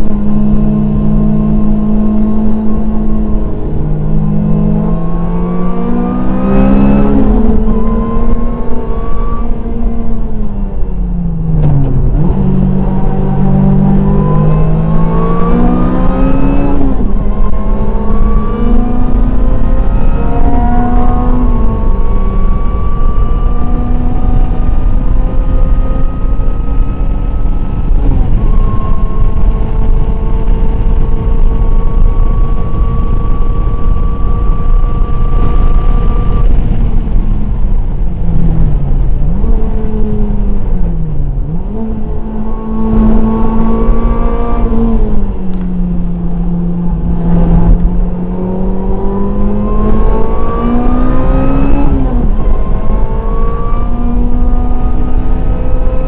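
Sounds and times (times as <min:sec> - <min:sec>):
car engine revving: 0:00.0 - 0:56.0
low rumble of road noise: 0:00.0 - 0:56.0.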